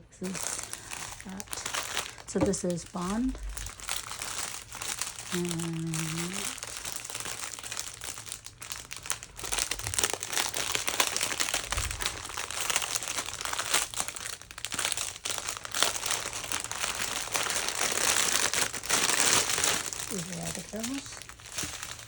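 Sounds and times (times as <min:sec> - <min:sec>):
plastic packaging crinkling: 0:00.2 - 0:22.0.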